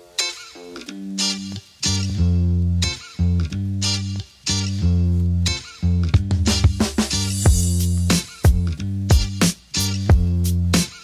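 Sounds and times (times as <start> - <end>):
plucked guitar: 0.0 - 11.0
sustained bass guitar notes: 1.9 - 10.8.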